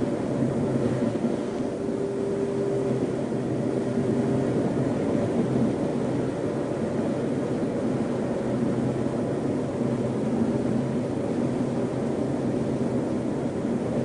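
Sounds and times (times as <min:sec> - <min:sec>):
strong storm wind: 0:00.0 - 0:14.0.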